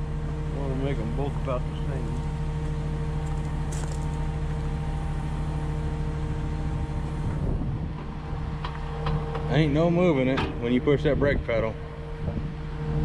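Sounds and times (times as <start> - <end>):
low rumble: 0.0 - 13.0
steady mechanical hum: 0.0 - 13.0.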